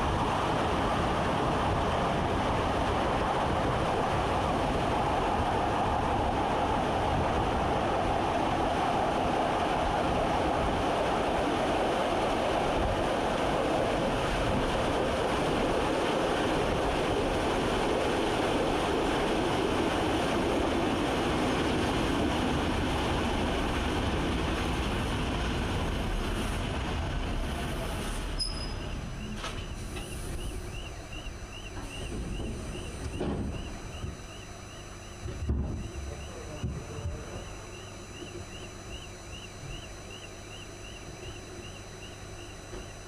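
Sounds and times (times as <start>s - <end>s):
train wheels rumbling on rails: 0.0s - 38.7s.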